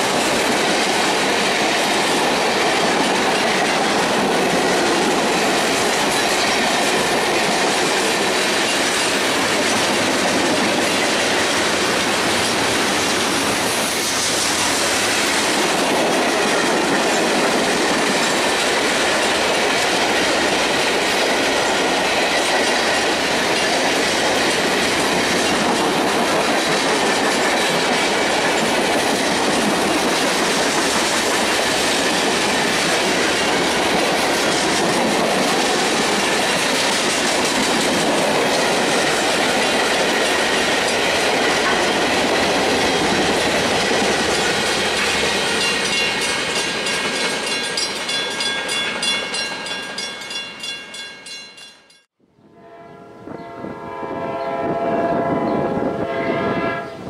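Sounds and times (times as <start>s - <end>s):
train wheels clattering over rail joints: 0.0s - 49.2s.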